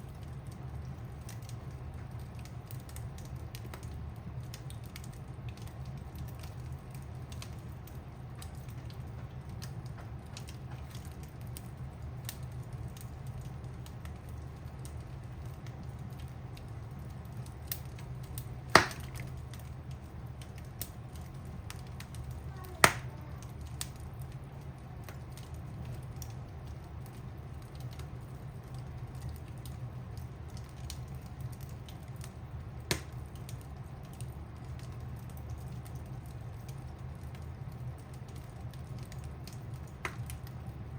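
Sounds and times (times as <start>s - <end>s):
sharp pops from fire: 0.0s - 40.8s
low steady hum: 0.0s - 40.9s
wood fire crackling: 0.0s - 40.9s.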